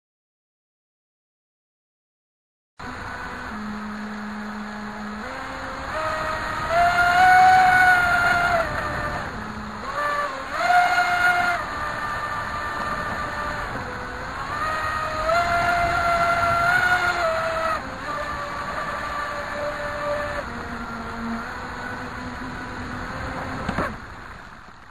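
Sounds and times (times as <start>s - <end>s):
electric motor whine: 2.8s - 24.9s
water rushing and spraying: 2.8s - 24.9s.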